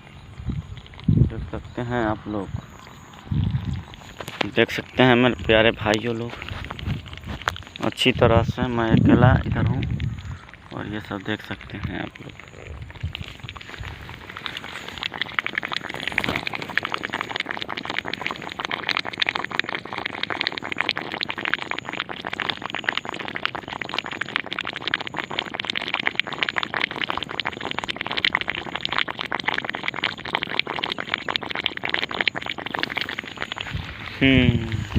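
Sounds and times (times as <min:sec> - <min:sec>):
dense continuous crackling: 0:00.0 - 0:34.9.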